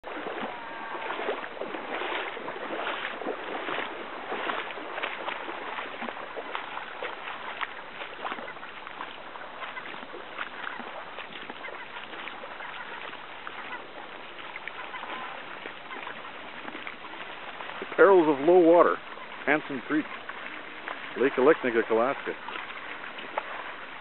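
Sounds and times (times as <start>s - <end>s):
creek water splashing and trickling: 0.0s - 24.0s.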